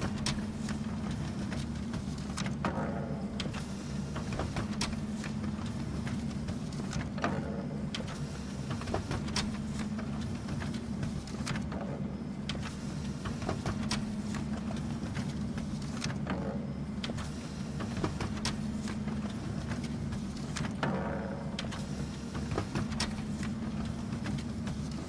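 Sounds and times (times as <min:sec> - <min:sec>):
paper feeding clicks: 0:00.0 - 0:02.8, 0:03.4 - 0:07.3, 0:07.9 - 0:11.8, 0:12.4 - 0:25.0
printer humming: 0:00.0 - 0:25.0.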